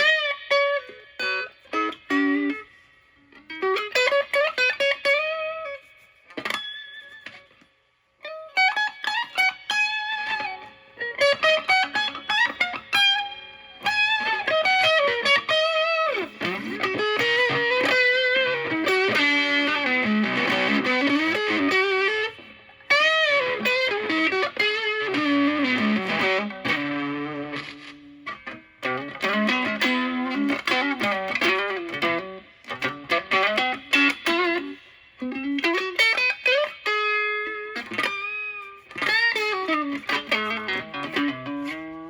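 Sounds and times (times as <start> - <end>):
fuzzy electric guitar lead: 0.0 - 42.0.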